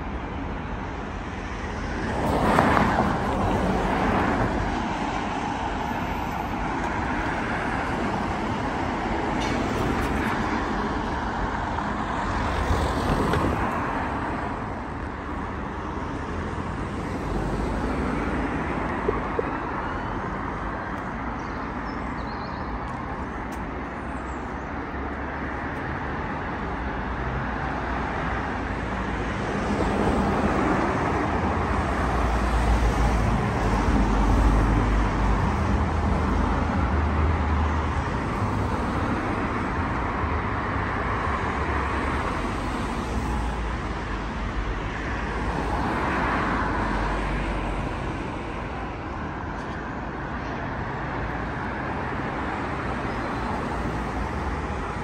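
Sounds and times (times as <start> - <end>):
vehicles driving past: 0.0 - 55.0.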